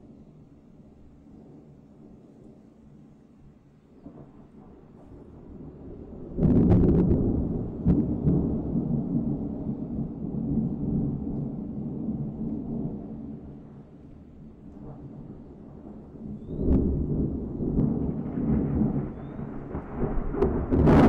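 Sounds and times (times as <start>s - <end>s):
thunder rumbling and cracking: 4.0s - 21.0s.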